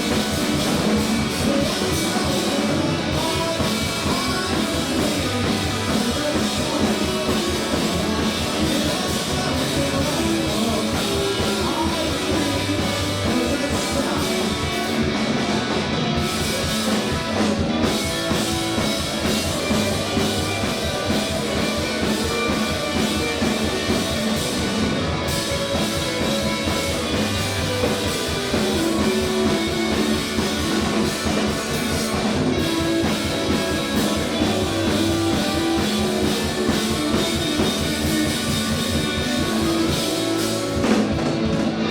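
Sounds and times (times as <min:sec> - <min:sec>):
drum kit: 0:00.0 - 0:41.9
electric guitar: 0:00.0 - 0:41.9
rock band playing loudly: 0:00.0 - 0:41.9.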